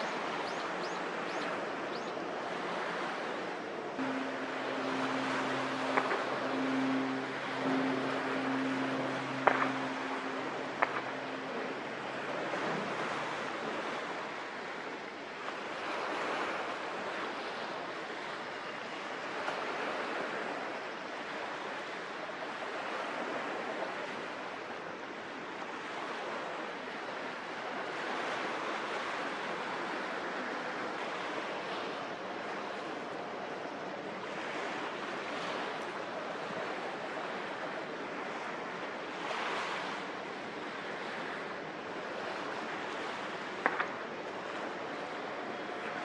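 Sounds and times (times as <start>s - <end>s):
water rushing: 0.0s - 20.4s, 27.6s - 46.0s
wind: 0.0s - 46.0s.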